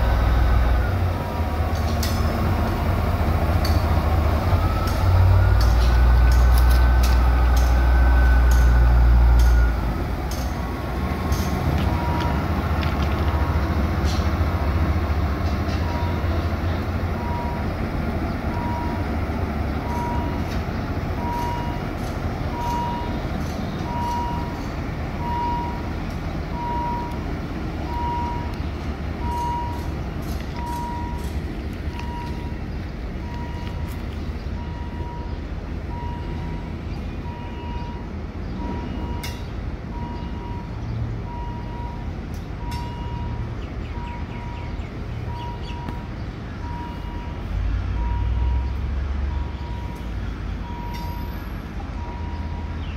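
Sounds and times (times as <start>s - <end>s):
diesel locomotive engine whining: 0.0s - 52.9s.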